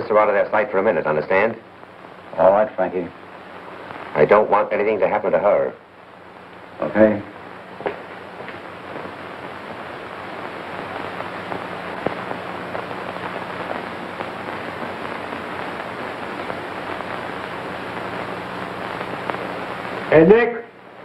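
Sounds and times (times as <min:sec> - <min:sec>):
hiss with crackles and ticks: 0:00.1 - 0:21.0.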